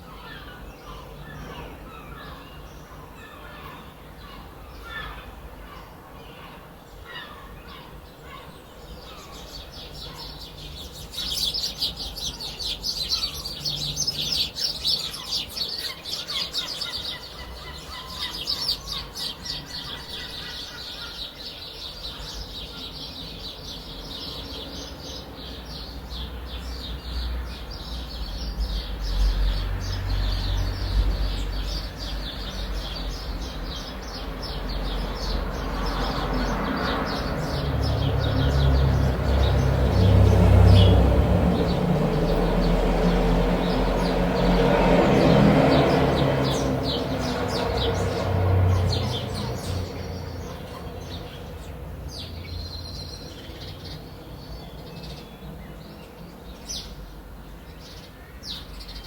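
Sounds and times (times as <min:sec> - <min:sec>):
falling bird calls: 0:00.0 - 0:59.0
small birds chirping: 0:00.0 - 0:59.0.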